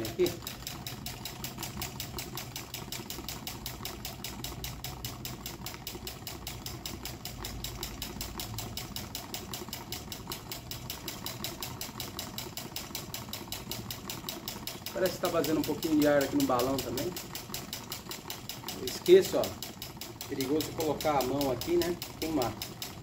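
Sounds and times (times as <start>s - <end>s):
stirling engine ticking clatter: 0.0s - 23.0s.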